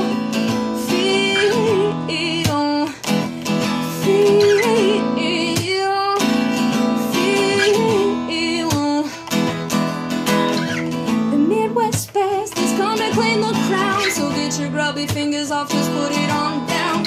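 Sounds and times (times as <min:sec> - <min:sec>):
person singing: 0:00.0 - 0:09.3, 0:11.3 - 0:17.0
acoustic guitar strumming: 0:00.0 - 0:17.0.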